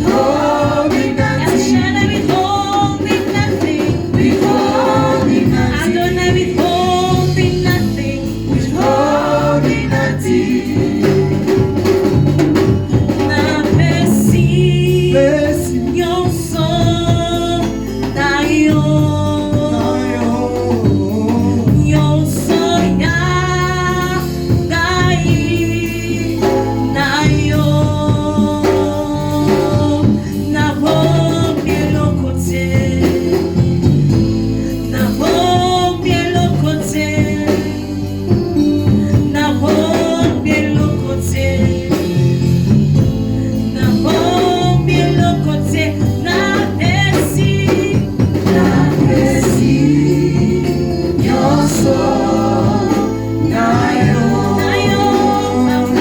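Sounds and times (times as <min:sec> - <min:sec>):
gospel singing voices: 0:00.0 - 0:56.0
instrumental backing: 0:00.0 - 0:56.0.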